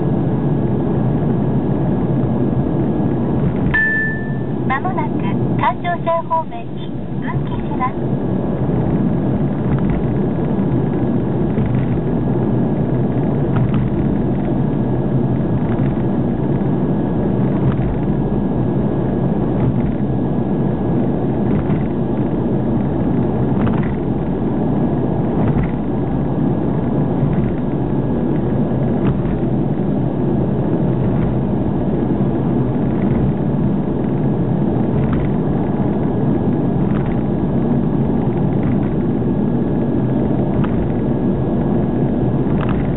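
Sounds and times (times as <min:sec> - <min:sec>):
car road and engine noise: 0:00.0 - 0:42.9.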